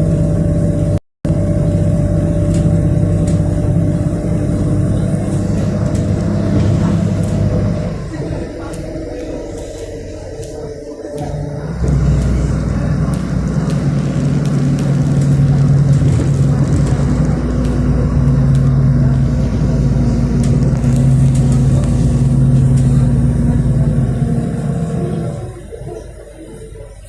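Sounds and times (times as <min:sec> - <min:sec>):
bus engine hum: 0:00.0 - 0:27.0
road noise: 0:00.0 - 0:27.0.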